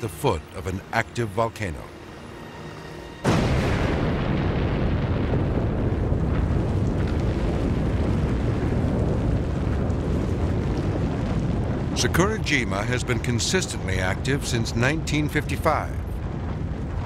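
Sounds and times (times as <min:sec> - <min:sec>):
volcano deep rumble: 0:03.2 - 0:17.0.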